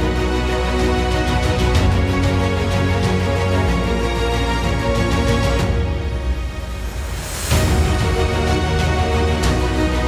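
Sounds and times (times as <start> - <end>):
soundtrack music with bass notes: 0.0 - 10.0.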